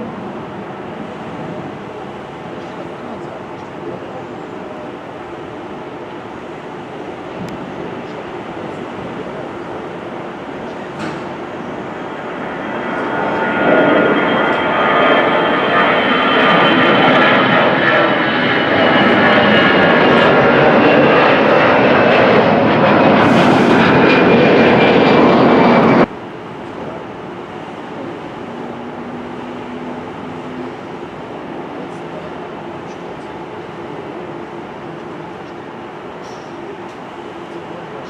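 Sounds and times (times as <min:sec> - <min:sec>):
jet engines passing with high whine: 0:00.0 - 0:38.0.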